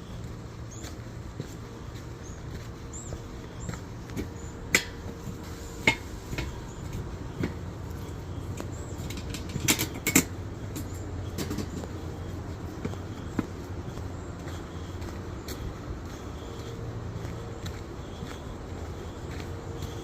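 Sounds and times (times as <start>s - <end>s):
footsteps scuffing on trail: 0.0s - 20.0s
steady low rumble: 0.0s - 20.0s.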